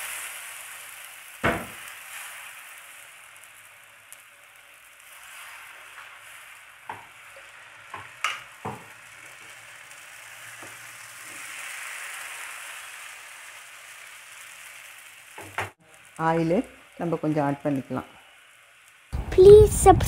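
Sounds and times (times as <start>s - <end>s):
batter sizzling on a griddle: 0.0s - 20.0s.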